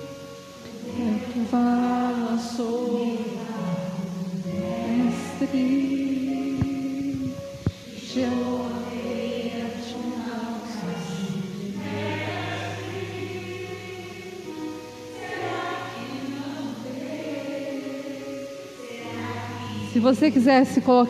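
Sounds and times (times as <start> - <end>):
choir singing worship song: 0.0 - 21.0.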